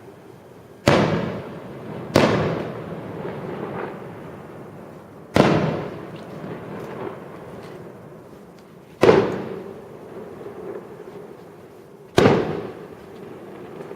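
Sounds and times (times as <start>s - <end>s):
fireworks bangs with echo: 0.8s - 8.3s, 9.0s - 13.9s.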